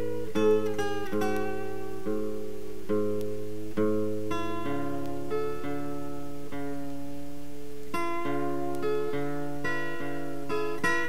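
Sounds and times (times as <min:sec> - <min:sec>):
acoustic guitar picking: 0:00.0 - 0:11.0.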